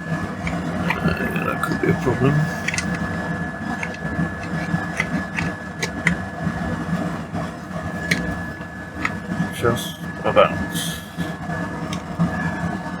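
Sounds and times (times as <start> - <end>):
extractor fan whining: 0.0 - 13.0.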